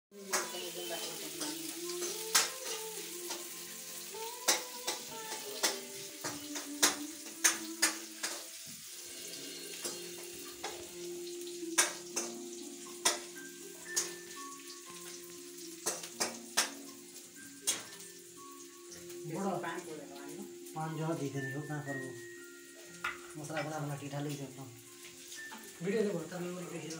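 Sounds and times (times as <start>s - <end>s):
faint background music: 0.1s - 26.9s
oil sizzling in a pan: 0.1s - 26.9s.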